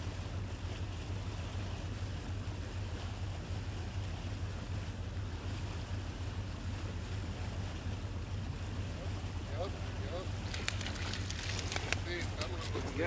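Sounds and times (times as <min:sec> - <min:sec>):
low hum: 0:00.0 - 0:13.0
water splashing and dripping: 0:00.0 - 0:13.0.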